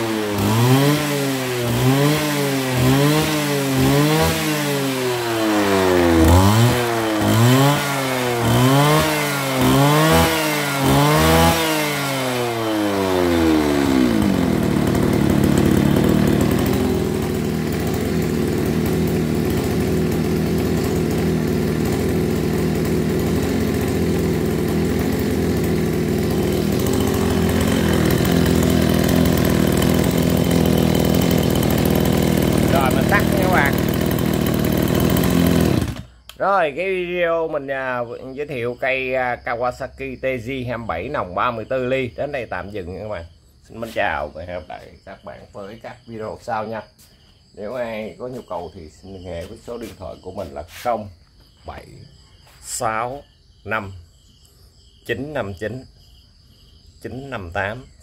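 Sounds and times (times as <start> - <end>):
brush cutter engine idling: 0.0 - 39.5, 40.4 - 52.0
brush cutter engine revving: 0.0 - 39.5, 40.4 - 51.2.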